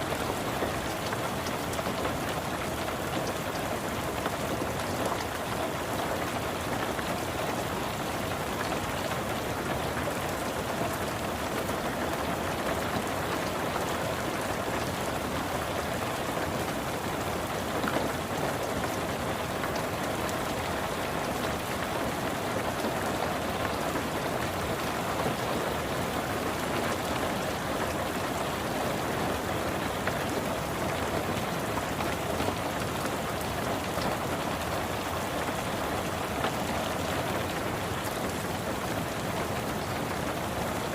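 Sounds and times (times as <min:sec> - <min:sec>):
rain falling on a car: 0:00.0 - 0:40.9.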